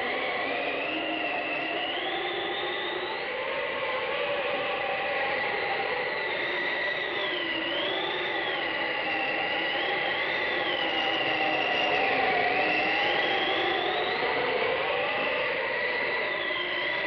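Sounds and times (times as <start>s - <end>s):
rising and falling whistling tones: 0.0s - 17.0s.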